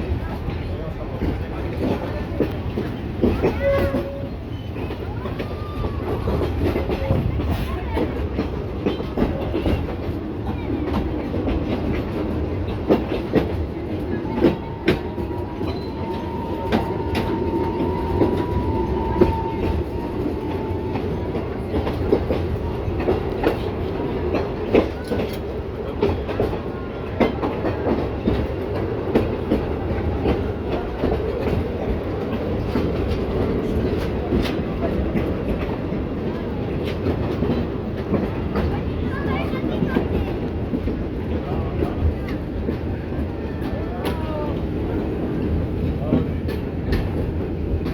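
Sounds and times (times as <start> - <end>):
train rolling rumble: 0.0 - 47.9.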